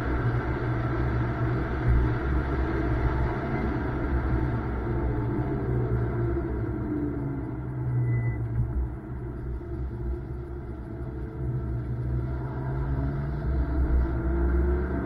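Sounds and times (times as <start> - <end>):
car engine rumbling under load: 0.0 - 15.0.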